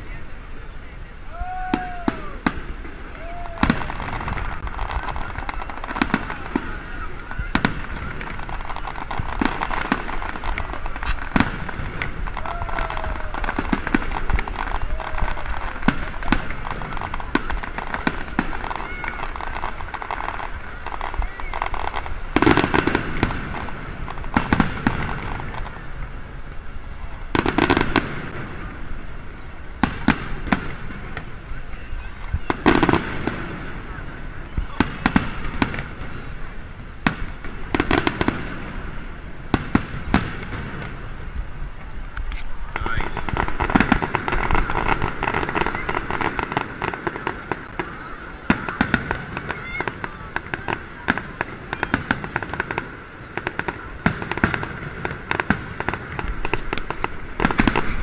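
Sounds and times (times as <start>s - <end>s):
crowd murmuring: 0.0s - 58.0s
fireworks bursting: 0.0s - 58.0s.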